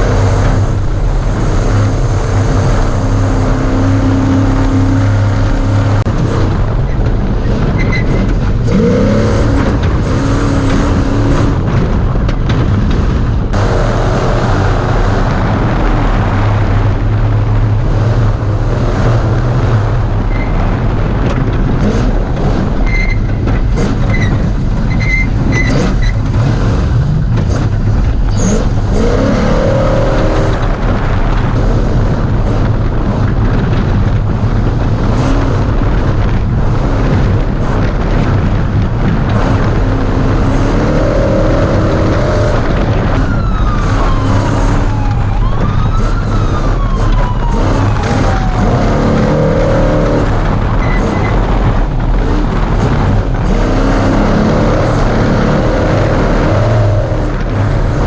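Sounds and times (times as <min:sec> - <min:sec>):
race truck engine running hard: 0:00.0 - 0:58.0.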